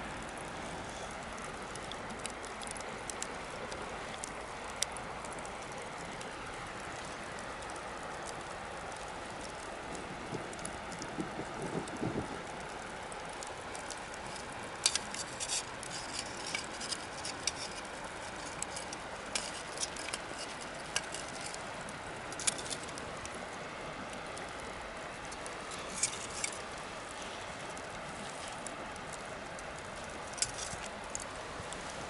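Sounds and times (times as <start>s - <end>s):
bonfire crackling and popping: 0.0s - 32.0s
low fire hiss: 0.0s - 32.0s.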